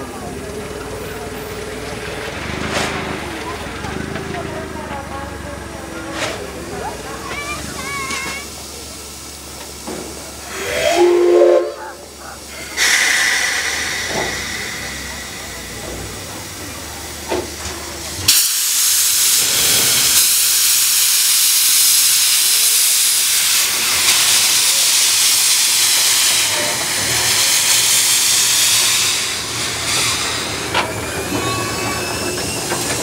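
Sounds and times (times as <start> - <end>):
steam locomotive hissing steam: 5.6 - 33.0.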